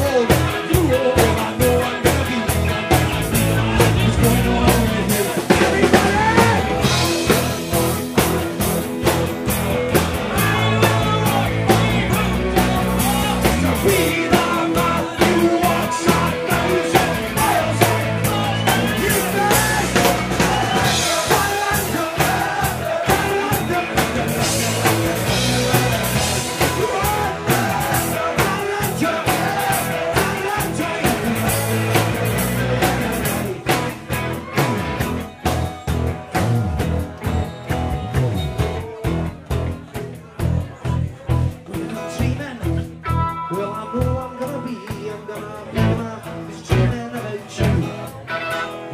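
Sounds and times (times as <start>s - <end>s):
person singing: 0.0s - 9.3s, 9.9s - 35.6s, 36.4s - 48.9s
electric guitar: 0.0s - 48.9s
live band playing: 0.0s - 48.9s.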